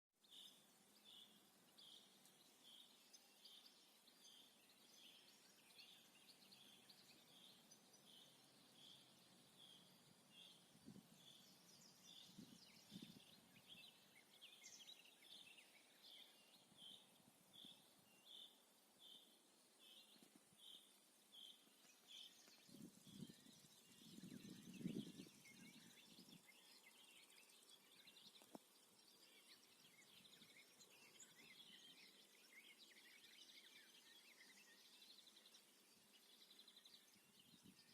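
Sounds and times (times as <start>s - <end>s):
birds chirping faintly: 0.2s - 37.9s.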